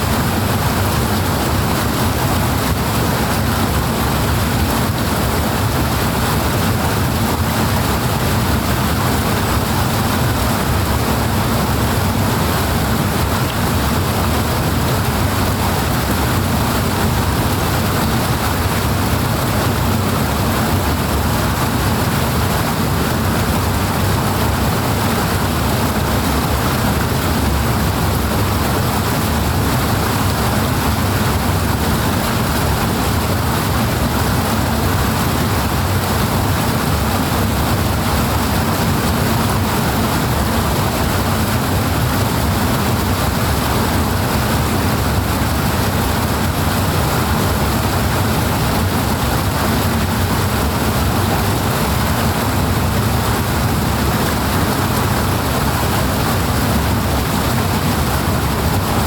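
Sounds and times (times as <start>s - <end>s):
rushing water roar: 0.0s - 59.0s.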